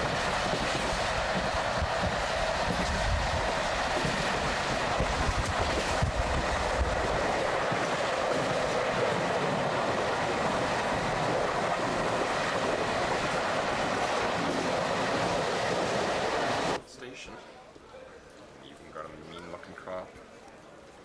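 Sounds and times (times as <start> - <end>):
train wheels and carriages: 0.0 - 21.0.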